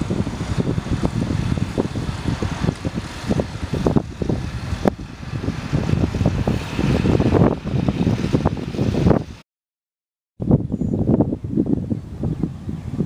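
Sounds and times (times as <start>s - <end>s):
wind buffeting microphone: 0.0s - 9.4s, 10.4s - 13.0s.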